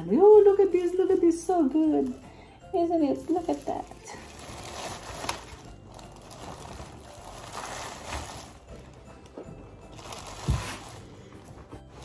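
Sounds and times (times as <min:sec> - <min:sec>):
plastic bags crinkling: 0:01.4 - 0:12.0.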